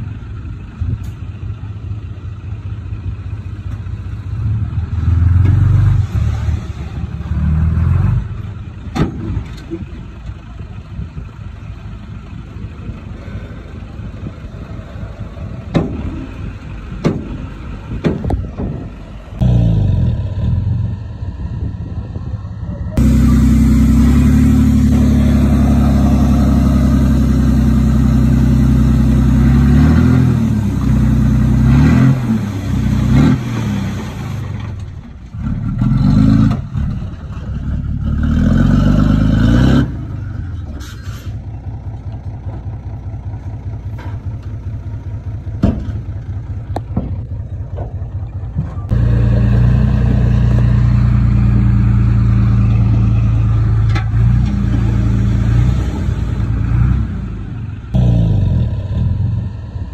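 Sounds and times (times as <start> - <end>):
heavy diesel engine working: 0.0 - 59.9.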